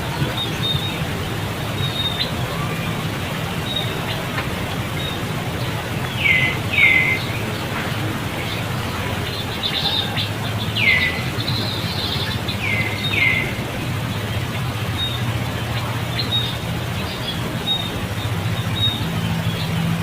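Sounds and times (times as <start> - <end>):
faint high chatter: 0.0 - 20.0
outdoor background hiss: 0.0 - 20.0.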